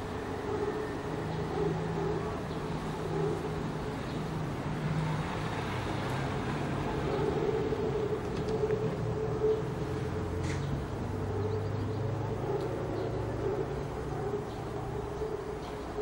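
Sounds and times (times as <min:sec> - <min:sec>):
steady mechanical drone: 0:00.0 - 0:16.0
street traffic: 0:00.0 - 0:16.0.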